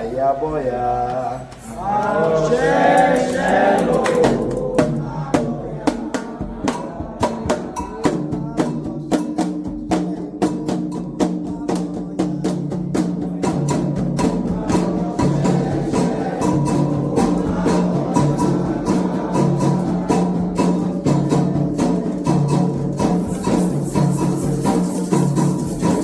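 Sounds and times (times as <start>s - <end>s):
hand drums: 1.4s - 26.0s.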